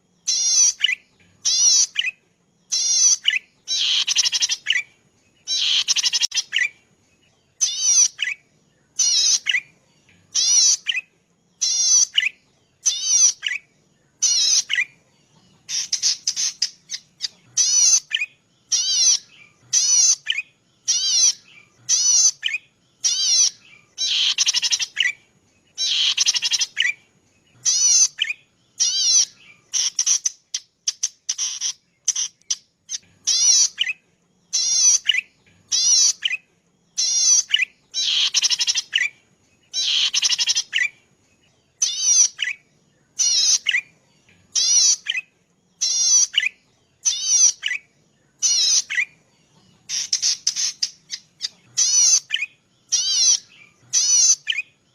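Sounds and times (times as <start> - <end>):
warbler calling in buzzy bursts: 0.0 - 7.0, 7.6 - 15.0, 15.6 - 54.9.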